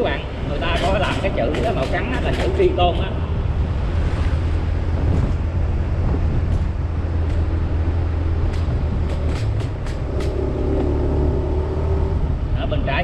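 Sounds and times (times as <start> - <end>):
motorbike engine hum: 0.0 - 12.8
wind rushing over microphone: 0.0 - 13.0.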